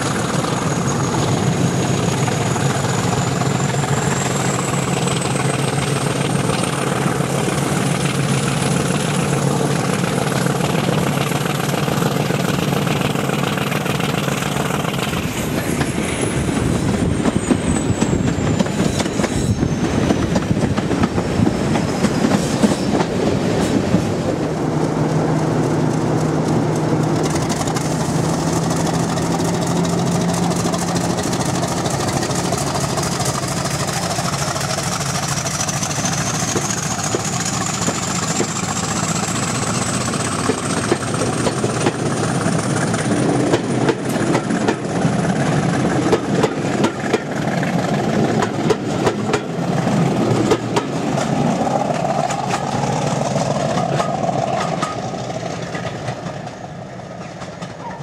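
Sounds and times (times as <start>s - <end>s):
coaches wheels clickety-clack: 0.0s - 58.0s
diesel locomotive engine working hard: 0.0s - 58.0s.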